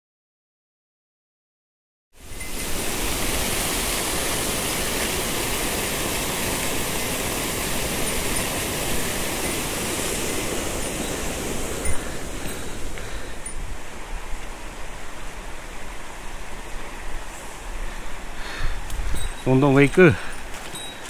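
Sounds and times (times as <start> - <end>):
stream water rushing: 2.2 - 21.0.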